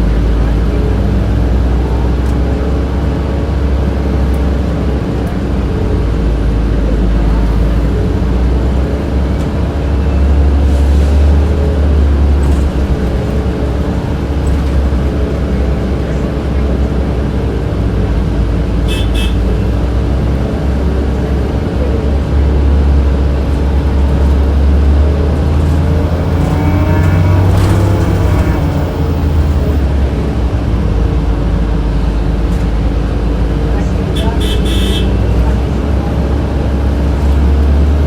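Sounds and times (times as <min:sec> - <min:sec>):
bus engine drone: 0:00.0 - 0:38.0.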